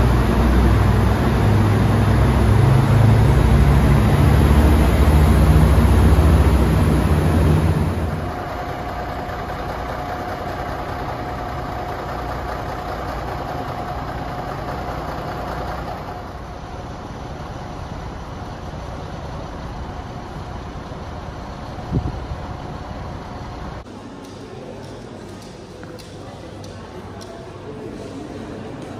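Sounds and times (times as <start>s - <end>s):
diesel engine idling: 0.0s - 23.9s
thin steady whine: 0.0s - 24.1s.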